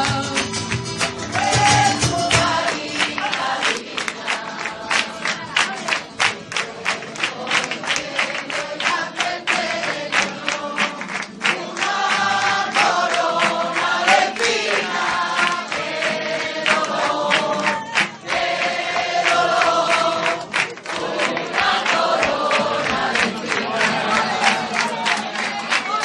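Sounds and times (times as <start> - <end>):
group singing: 0.0 - 26.0
guitar: 0.0 - 26.0
rhythmic hand clapping: 0.0 - 26.0.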